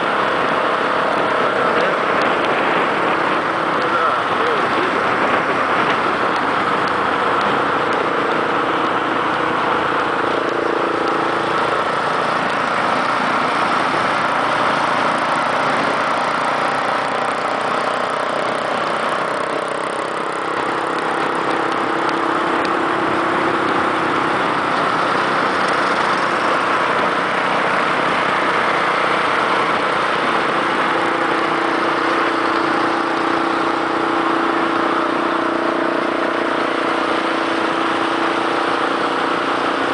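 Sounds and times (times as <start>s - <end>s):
motorcycle engine running: 0.0s - 39.9s
other motorcycle engines: 0.0s - 39.9s
wind rushing over microphone: 0.0s - 39.9s.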